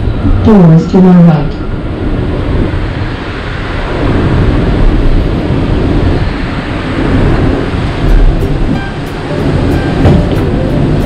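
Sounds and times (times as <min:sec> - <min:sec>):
train wheel and track rumble: 0:00.0 - 0:11.0.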